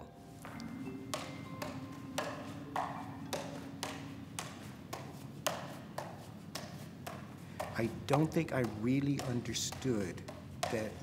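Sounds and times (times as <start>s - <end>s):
juggling clubs smacking hands: 1.1s - 11.0s.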